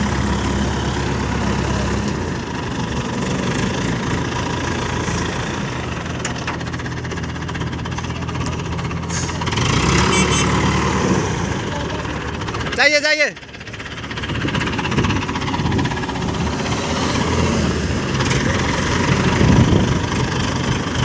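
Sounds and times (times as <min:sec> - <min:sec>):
crane diesel engine running: 0:00.0 - 0:21.0.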